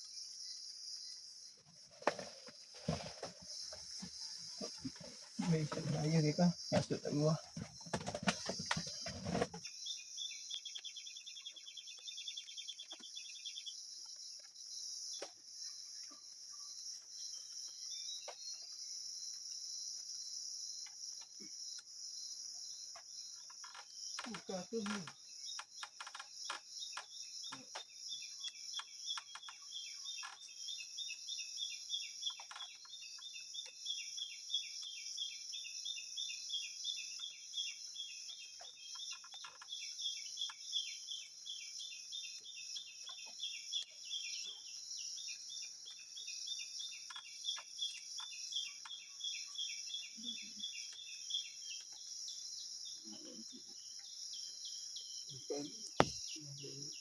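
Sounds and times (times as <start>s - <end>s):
insect chirps: 0.0s - 57.0s
insects high-pitched drone: 0.0s - 57.0s.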